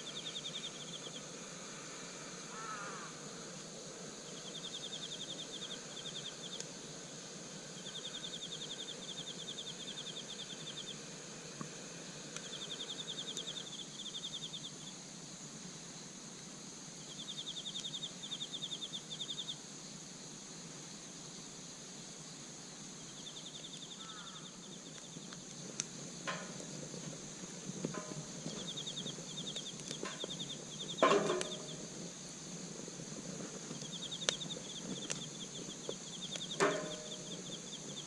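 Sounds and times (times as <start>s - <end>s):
insect chorus: 0.0s - 38.0s
insect trilling: 0.0s - 38.0s.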